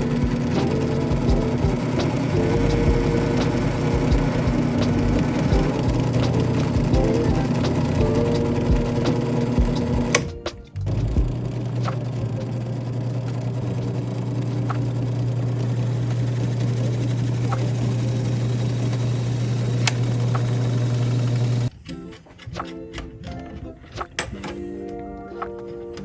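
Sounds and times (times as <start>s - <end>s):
low mechanical hum of machine: 0.0s - 21.7s.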